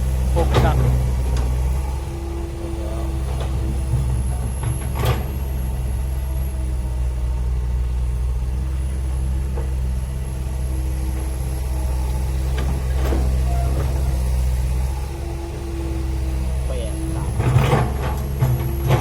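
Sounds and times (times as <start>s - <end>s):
diesel machinery droning: 0.0s - 19.0s.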